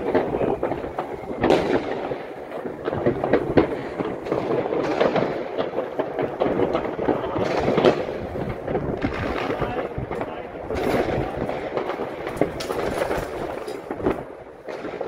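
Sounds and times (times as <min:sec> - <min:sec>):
fireworks bangs and crackles: 0:00.0 - 0:15.0
sharp firework bang: 0:00.0 - 0:15.0.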